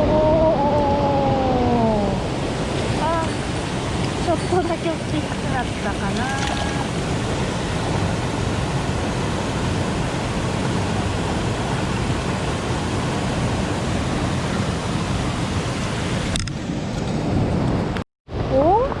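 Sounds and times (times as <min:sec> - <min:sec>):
mountain stream rushing: 0:01.9 - 0:17.6.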